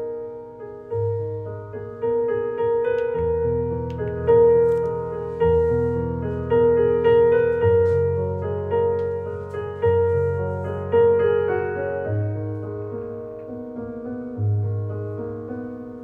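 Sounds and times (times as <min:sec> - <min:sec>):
gentle piano chords: 0:00.0 - 0:16.0.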